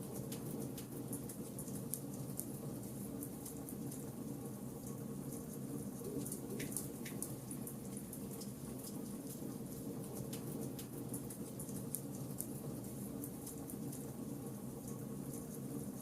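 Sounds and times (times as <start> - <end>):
charcoal fire crackling: 0.0 - 16.0.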